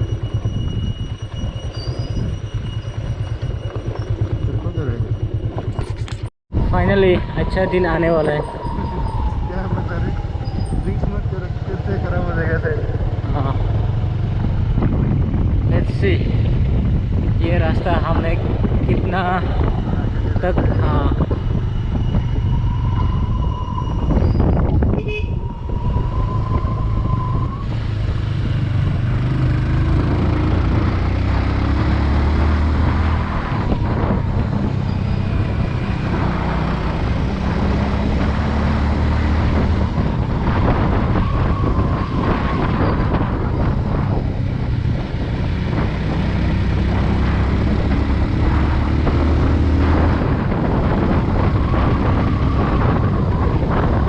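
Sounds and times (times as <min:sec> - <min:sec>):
motorcycle engine revving: 0:00.0 - 0:06.3, 0:08.2 - 0:54.0
wind on microphone: 0:00.0 - 0:54.0.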